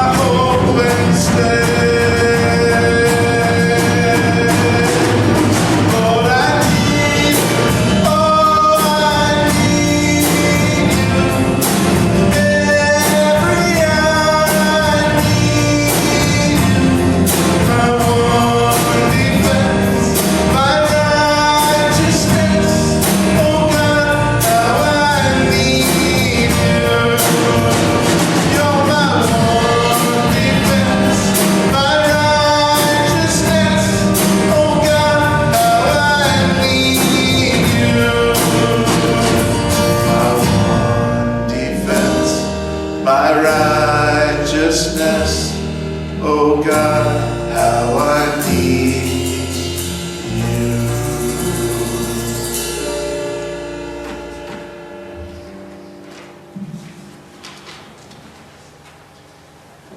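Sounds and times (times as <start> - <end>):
worship song with band: 0.0 - 59.9.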